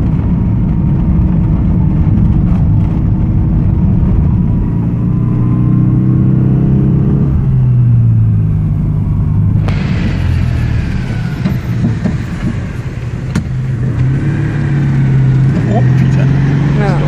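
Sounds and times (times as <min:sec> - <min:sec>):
car engine humming: 0:00.0 - 0:17.0
road and wind noise: 0:00.0 - 0:17.0.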